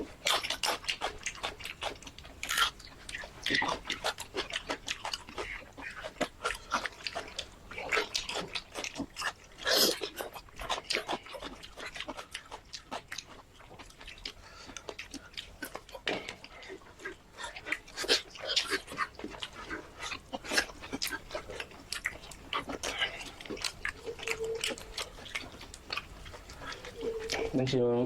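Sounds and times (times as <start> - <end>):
slurping: 0.0 - 12.6, 13.4 - 27.6
wet chewing: 0.0 - 27.7.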